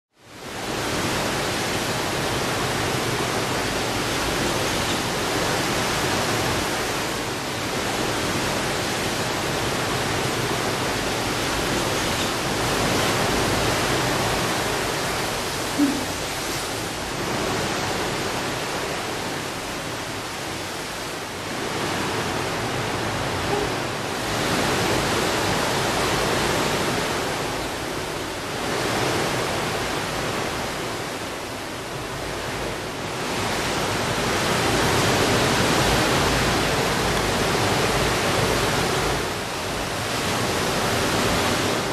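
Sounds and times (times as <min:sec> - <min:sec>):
distant sea: 0:00.1 - 0:41.9
wind: 0:00.1 - 0:41.9.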